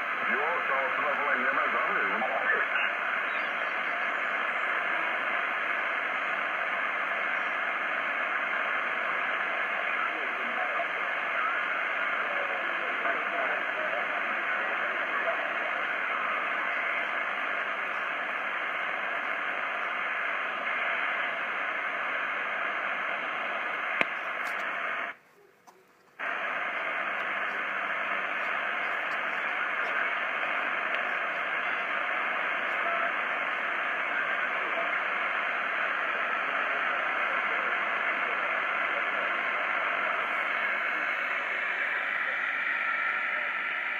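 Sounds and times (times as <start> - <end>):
radio band noise hiss: 0.0 - 43.9.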